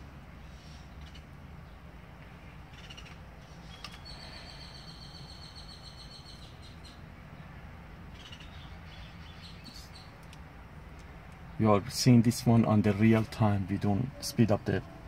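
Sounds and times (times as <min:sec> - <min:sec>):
steady low hum: 0:00.0 - 0:15.0
birds chirping: 0:00.3 - 0:15.0.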